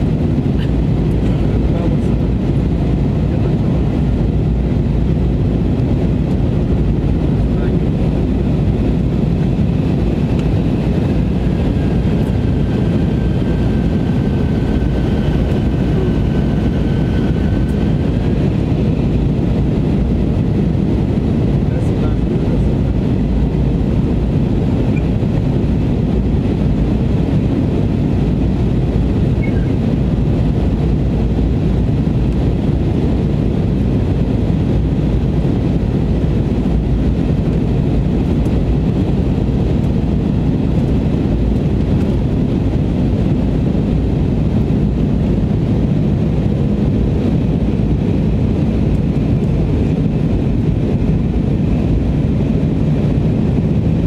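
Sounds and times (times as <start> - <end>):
jet engines rumbling in cabin: 0.0 - 54.0
rushing air: 0.0 - 54.0.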